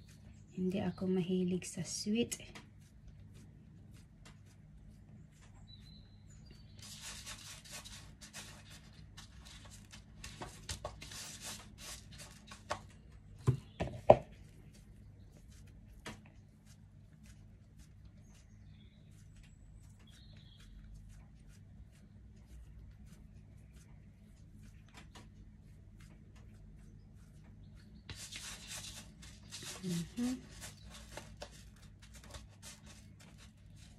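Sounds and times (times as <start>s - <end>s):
hands mixing dough in plastic bowl: 6.5s - 33.9s.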